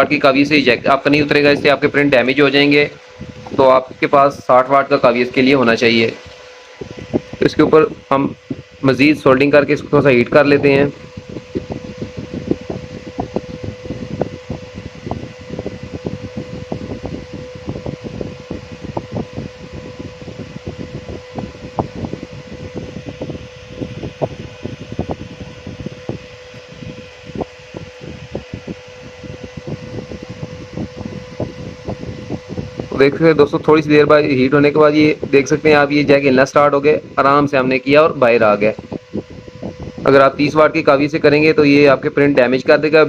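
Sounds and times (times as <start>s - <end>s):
small fan humming: 0.0s - 43.0s.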